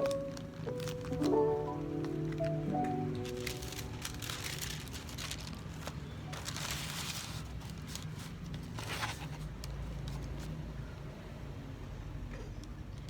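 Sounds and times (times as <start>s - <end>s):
packaging rustling: 0.0s - 10.6s.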